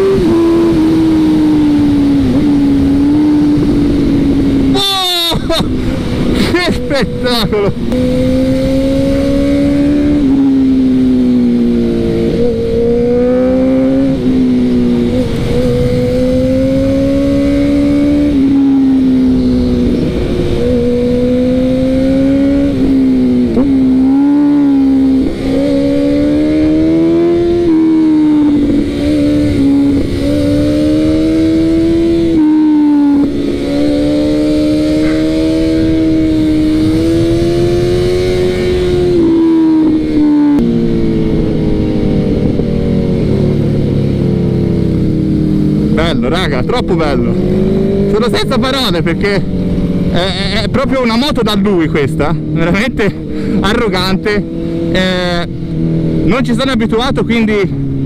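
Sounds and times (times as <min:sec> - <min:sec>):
wind rushing: 0:00.0 - 0:56.4
motorcycle engine revving: 0:00.0 - 0:58.0.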